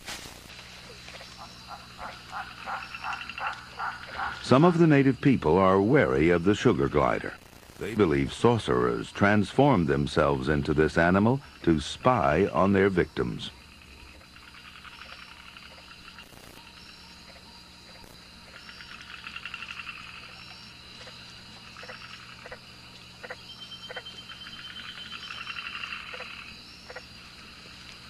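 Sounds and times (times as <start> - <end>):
frogs and insects pulsing trills: 0.4 - 28.0.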